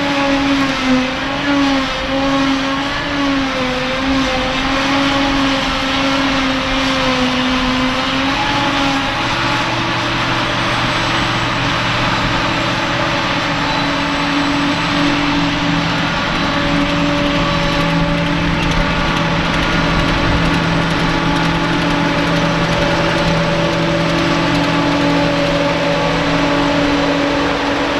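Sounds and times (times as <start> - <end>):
forage harvester chopping grass: 0.0 - 27.9
tractor engines working: 0.0 - 27.9.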